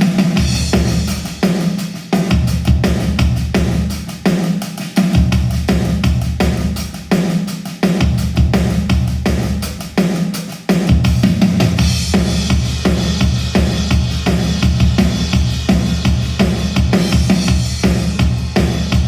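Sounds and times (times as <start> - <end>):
drum-heavy music with deep bass: 0.0 - 19.0.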